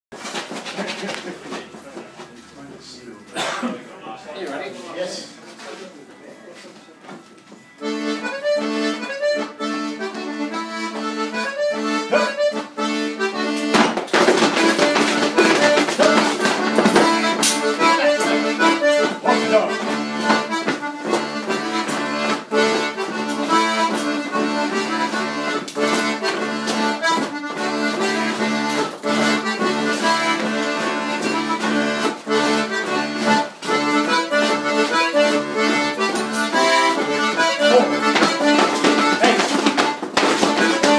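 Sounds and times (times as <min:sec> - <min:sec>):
accordion playing dance tune: 0:07.4 - 0:40.9.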